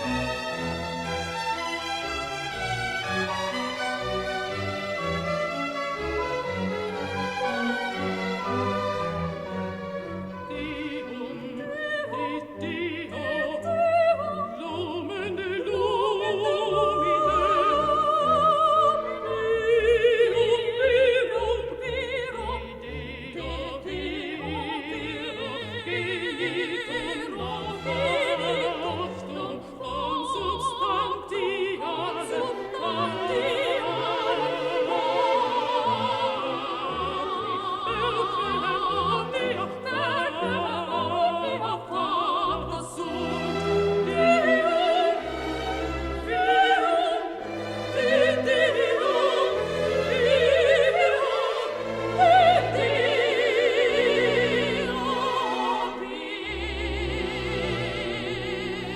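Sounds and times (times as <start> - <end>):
operatic singing with orchestra: 0.0 - 58.9.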